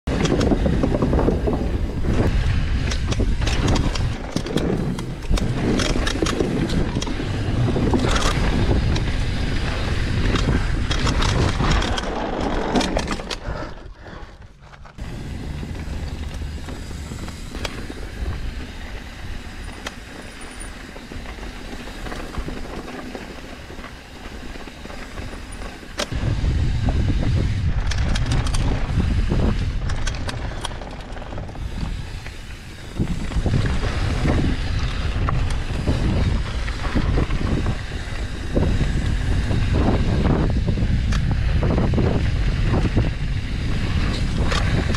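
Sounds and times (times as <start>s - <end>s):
wind rushing over microphone: 0.0s - 13.3s, 15.0s - 44.9s
bike rattling and clicking: 0.1s - 44.9s
bike tyres rolling on dirt: 0.1s - 44.9s.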